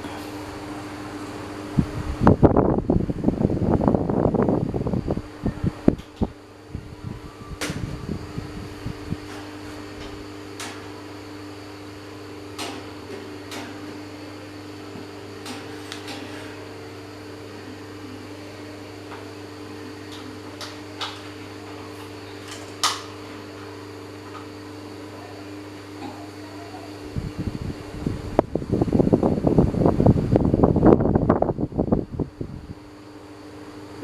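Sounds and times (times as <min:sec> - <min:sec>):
electric fan motor hum: 0:00.0 - 0:34.0.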